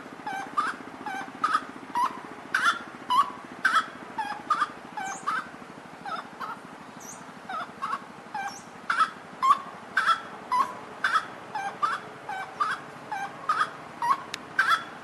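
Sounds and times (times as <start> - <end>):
bird calling sweeping notes: 0.3 - 5.5, 6.1 - 15.0.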